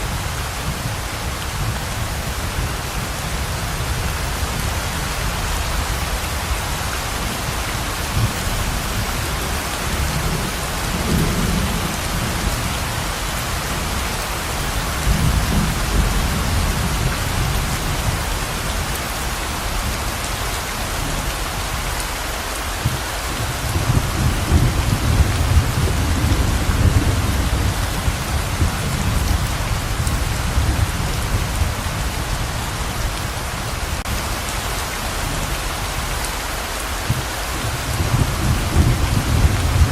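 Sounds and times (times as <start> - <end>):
heavy pouring rain: 0.0 - 39.9.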